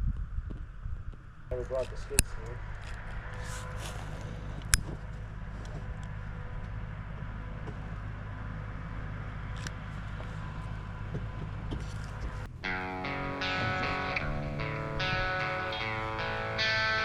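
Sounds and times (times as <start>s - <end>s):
engine humming: 0.7s - 17.0s.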